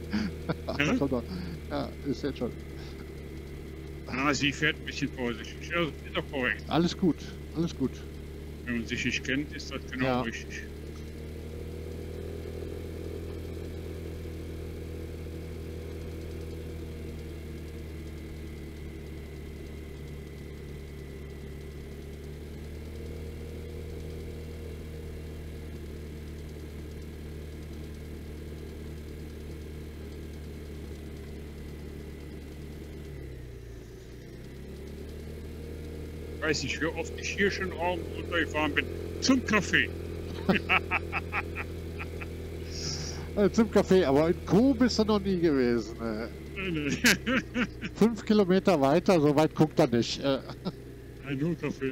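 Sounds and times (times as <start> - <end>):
scooter engine cruising: 0.0 - 51.9.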